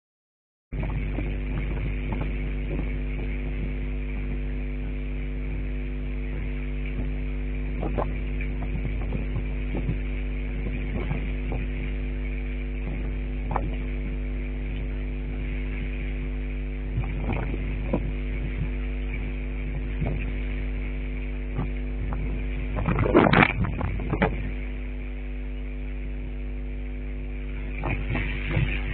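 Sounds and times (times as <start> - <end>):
deep low drone: 0.7 - 28.9
electrical hum: 0.7 - 28.9.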